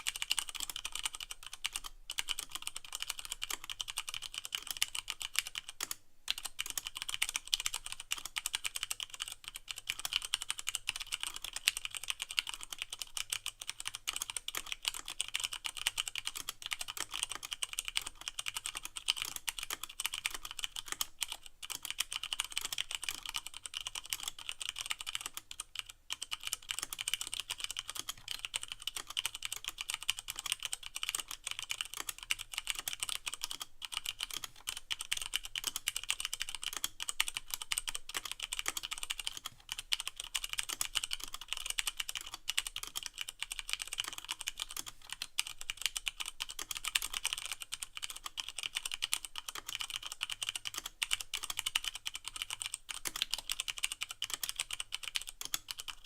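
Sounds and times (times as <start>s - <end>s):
fast mechanical keyboard typing: 0.0s - 56.0s.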